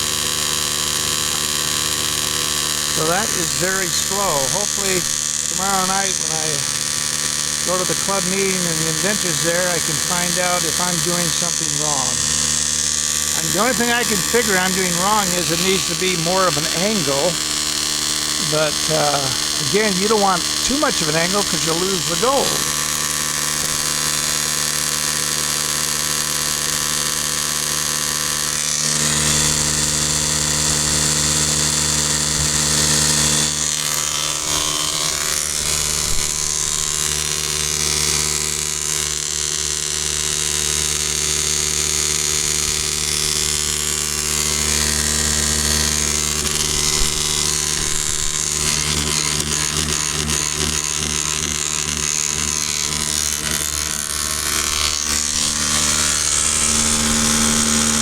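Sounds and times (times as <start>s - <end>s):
electric motor buzz: 0.0s - 58.0s.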